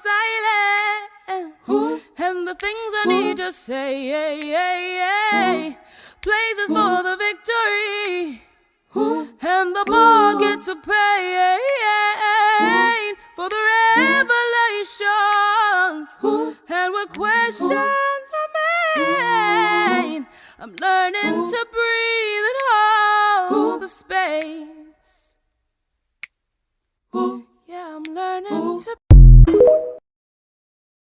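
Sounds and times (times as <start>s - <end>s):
woman singing unaccompanied: 0.0s - 8.4s, 9.0s - 25.0s, 27.2s - 29.0s.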